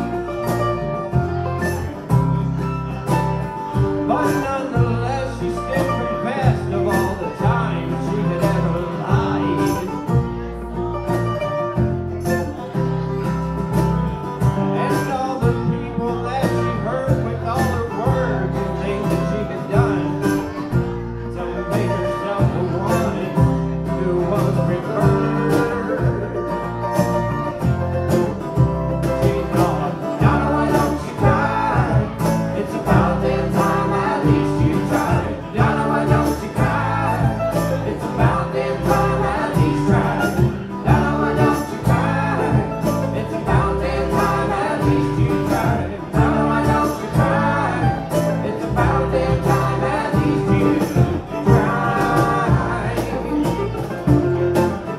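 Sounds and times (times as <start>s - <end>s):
country band with acoustic guitars: 0.0s - 54.9s.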